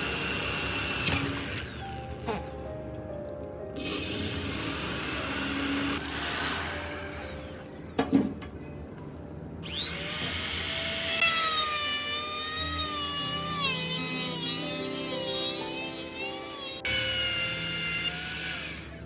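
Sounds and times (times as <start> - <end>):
power tool on steel: 0.0 - 2.8, 3.8 - 8.6, 9.6 - 19.0.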